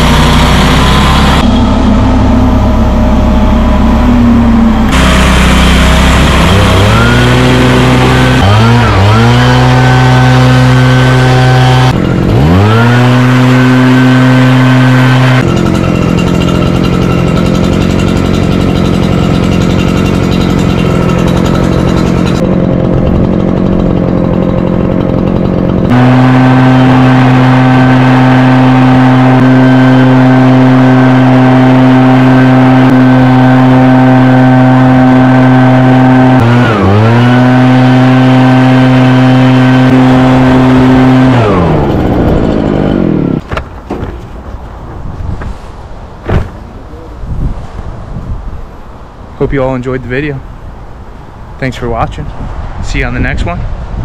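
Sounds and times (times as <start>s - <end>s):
stump grinder engine running: 0.0s - 44.8s.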